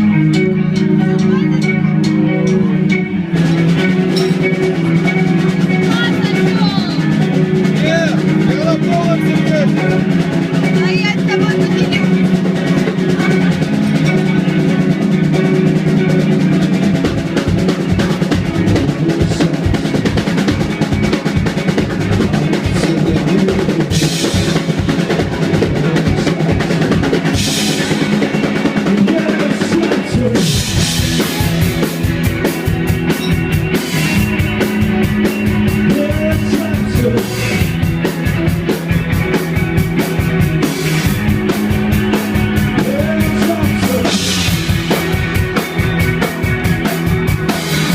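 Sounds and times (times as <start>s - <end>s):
drum kit beat: 0.0s - 47.9s
live rock band: 0.0s - 47.9s
low bass notes: 0.0s - 47.9s.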